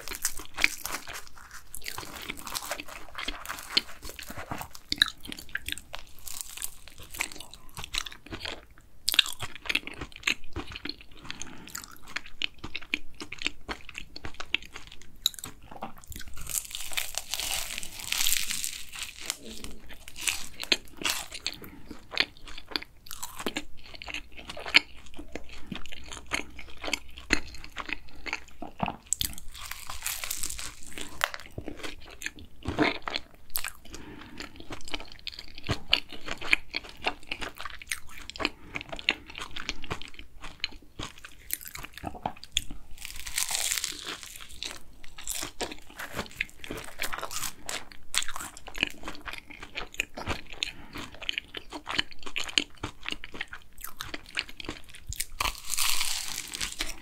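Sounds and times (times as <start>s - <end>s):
chewing: 0.0s - 57.0s
pastry crunching under teeth: 0.0s - 57.0s.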